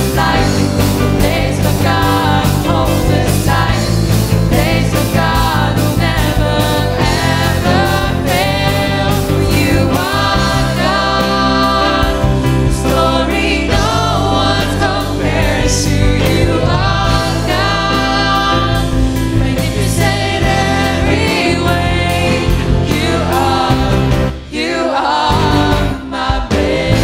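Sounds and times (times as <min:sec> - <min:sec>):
accompaniment with steady beat: 0:00.0 - 0:24.4
group singing worship song: 0:00.0 - 0:27.0.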